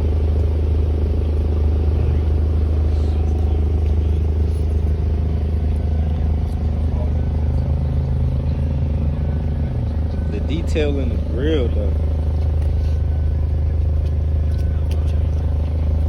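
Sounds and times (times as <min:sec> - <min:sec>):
car engine idling: 0:00.0 - 0:16.0
low tone: 0:00.0 - 0:16.0.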